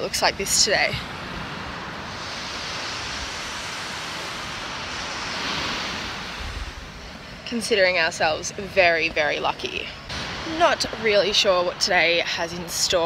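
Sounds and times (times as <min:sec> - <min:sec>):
ocean surf washing on shore: 0:00.0 - 0:13.0.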